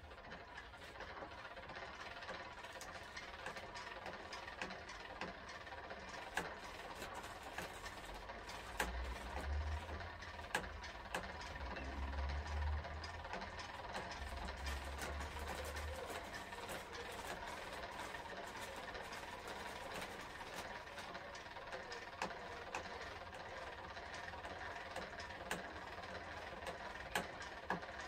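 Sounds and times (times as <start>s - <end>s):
diesel railcar engine idling: 0.0s - 28.0s
sharp clicks and rattles: 0.0s - 28.0s.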